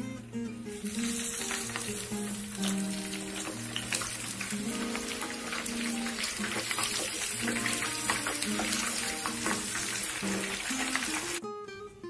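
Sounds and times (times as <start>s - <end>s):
background music: 0.0s - 12.0s
fish sizzling in oil: 0.8s - 11.4s.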